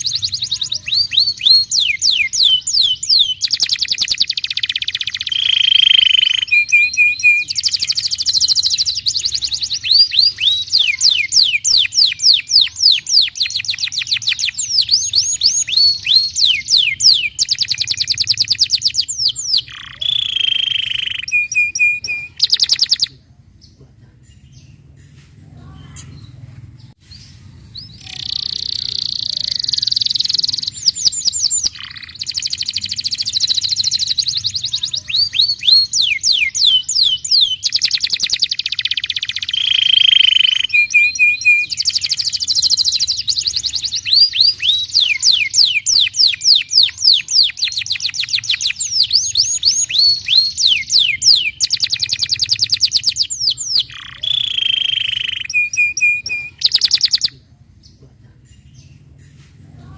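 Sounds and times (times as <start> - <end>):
canary singing trills: 0.0 - 24.9, 25.6 - 58.0.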